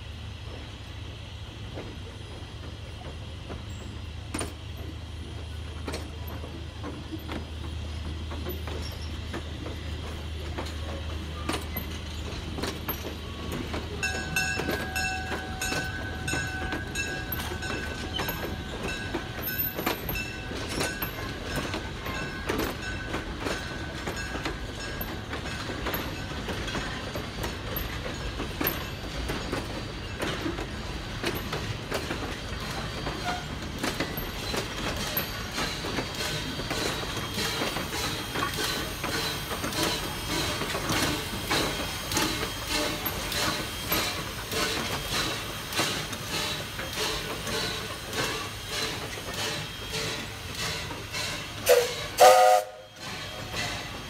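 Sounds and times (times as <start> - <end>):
wheels clicking over rail joints: 1.6 - 54.0.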